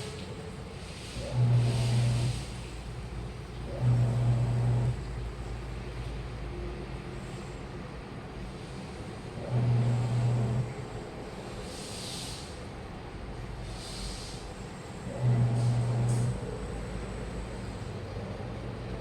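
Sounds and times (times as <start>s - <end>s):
washing machine motor humming: 0.0s - 11.8s, 14.4s - 19.0s.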